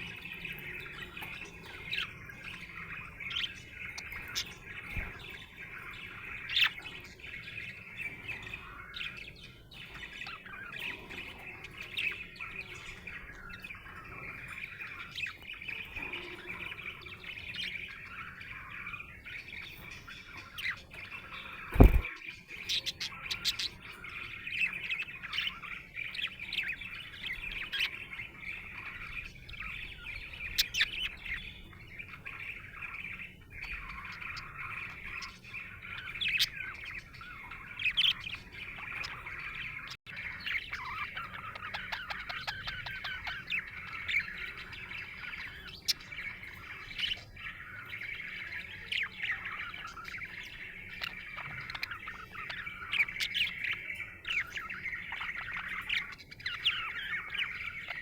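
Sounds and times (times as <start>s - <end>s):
budgerigar chattering and warbling: 0.0s - 58.0s.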